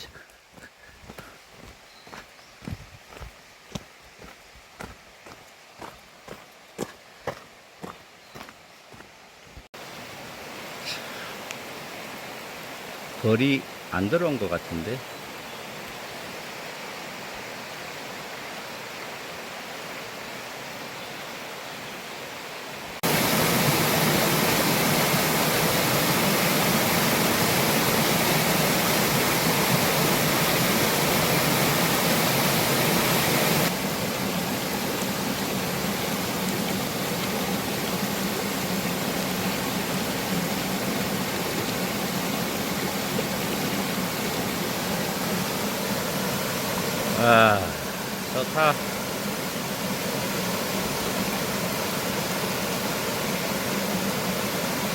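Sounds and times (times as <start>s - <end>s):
stream and waterfall rushing: 0.0s - 54.9s.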